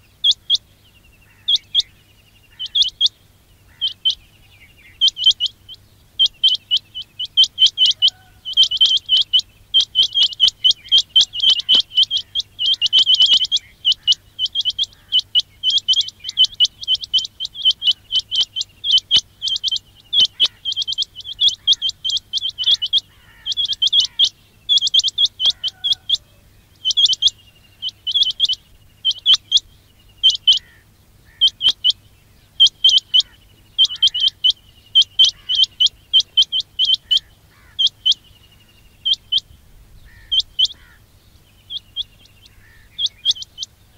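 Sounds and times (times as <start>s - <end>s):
quail chirping: 0.0s - 43.9s.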